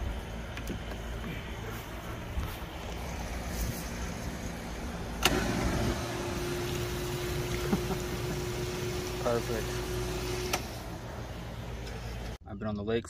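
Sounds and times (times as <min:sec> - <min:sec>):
bilge pump humming: 0:00.0 - 0:12.4.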